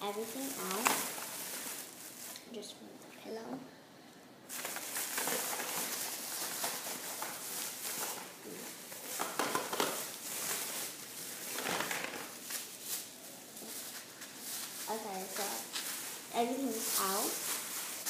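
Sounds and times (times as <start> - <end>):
plastic bag rustling: 0.0 - 2.7, 4.5 - 18.0.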